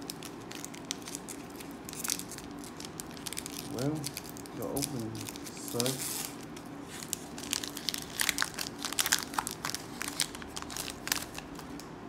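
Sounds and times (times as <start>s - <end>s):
foil wrapper crinkling and tearing: 0.0s - 11.8s.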